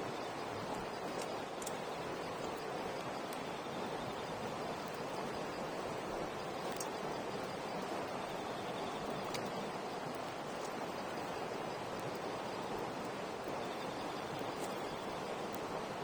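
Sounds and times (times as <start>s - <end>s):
campfire crackling: 0.4s - 16.0s.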